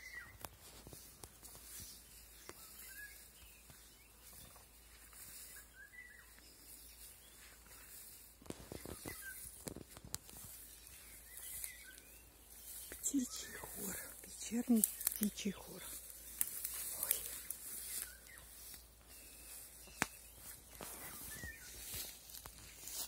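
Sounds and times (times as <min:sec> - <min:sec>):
distant songbirds chirping: 0:00.0 - 0:23.0.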